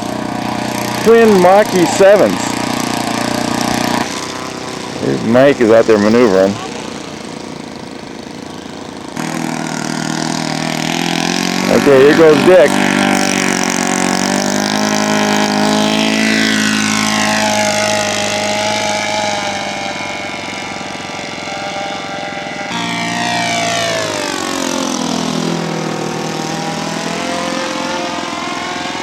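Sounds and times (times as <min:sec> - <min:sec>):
model plane engine passing by: 0:00.0 - 0:29.0.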